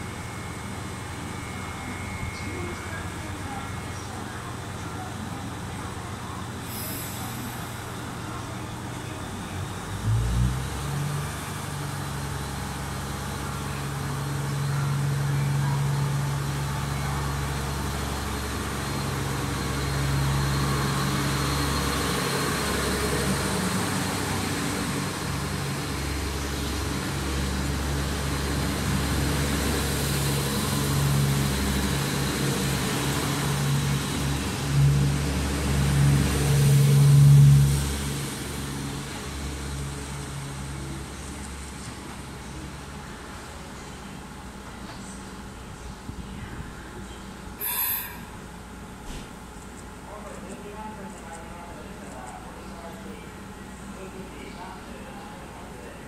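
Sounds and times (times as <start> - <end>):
diesel train engine humming: 0.0 - 56.0.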